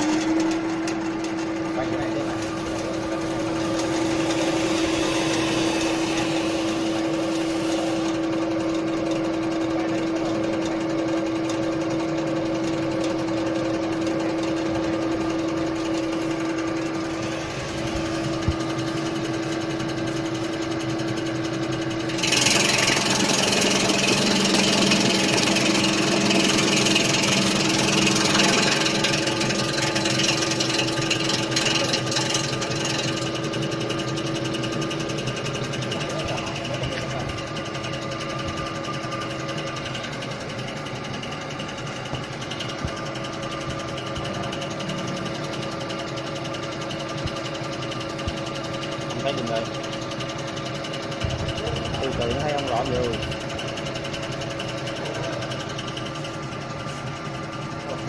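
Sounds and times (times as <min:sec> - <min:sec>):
slicing machine humming: 0:00.0 - 0:58.0.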